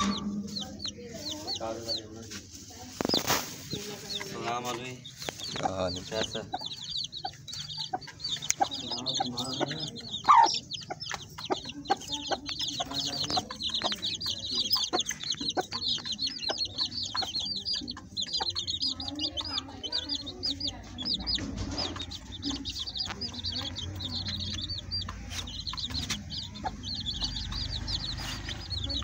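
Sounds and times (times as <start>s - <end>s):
chicks peeping: 0.0s - 29.0s
hen clucking softly: 3.0s - 29.0s.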